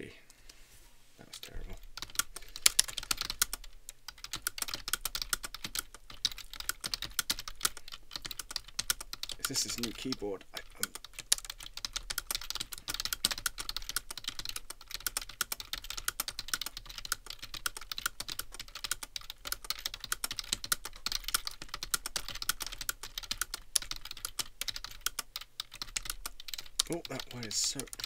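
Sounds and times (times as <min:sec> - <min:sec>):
fast typing on keyboard: 0:01.4 - 0:28.0.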